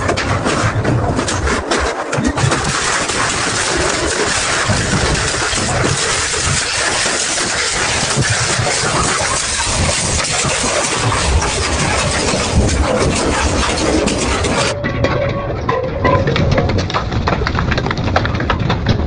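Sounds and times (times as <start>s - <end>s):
shredder grinding and crunching: 0.0s - 19.0s.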